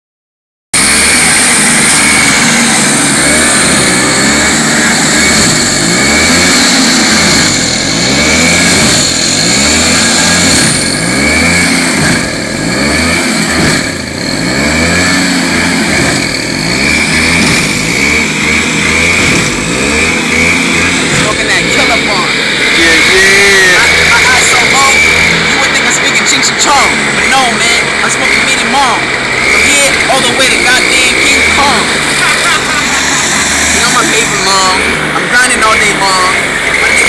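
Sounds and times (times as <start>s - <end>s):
car engine revving: 0.8s - 37.0s
steady high whine: 0.8s - 37.0s.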